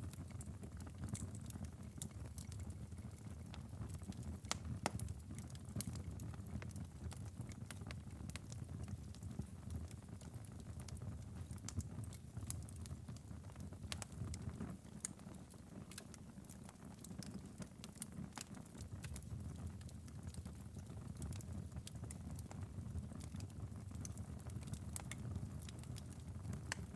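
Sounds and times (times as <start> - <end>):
low rumble of flames: 0.0 - 26.9
wood fire crackling: 0.0 - 26.9.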